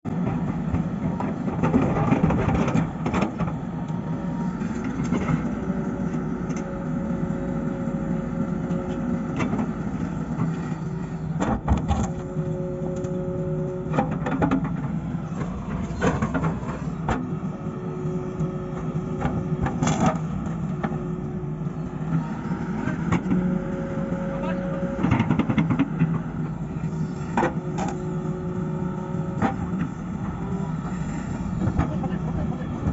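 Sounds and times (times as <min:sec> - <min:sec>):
excavator diesel engine: 0:00.1 - 0:32.9.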